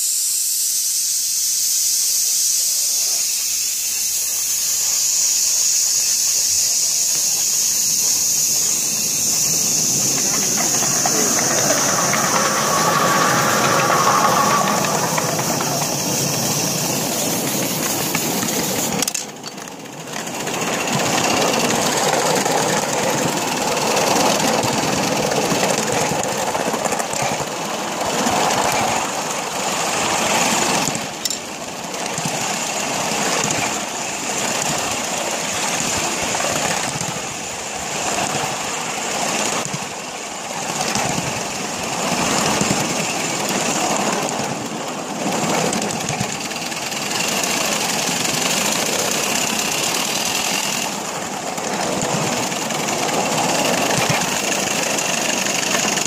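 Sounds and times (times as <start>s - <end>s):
steam locomotive running: 0.0s - 56.0s.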